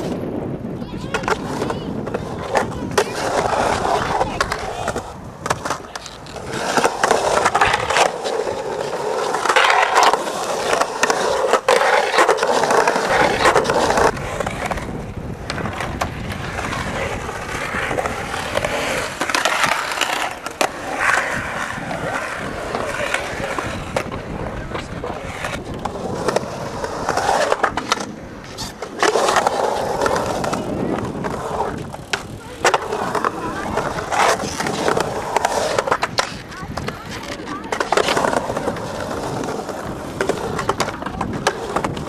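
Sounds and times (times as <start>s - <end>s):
skateboard clacks: 0.0s - 42.0s
skateboard wheels rolling on concrete: 0.0s - 42.0s.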